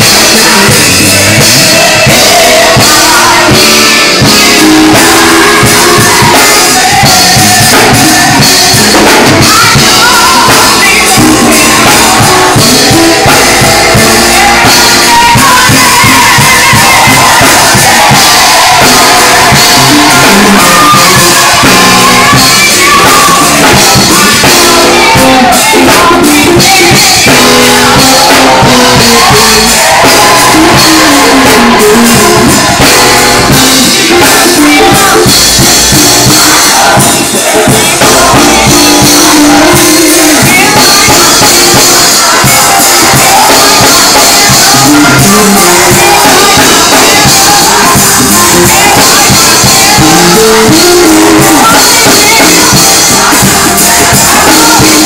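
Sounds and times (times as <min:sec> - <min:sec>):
drum kit with cymbals: 0:00.0 - 0:55.0
electric guitar: 0:00.0 - 0:55.0.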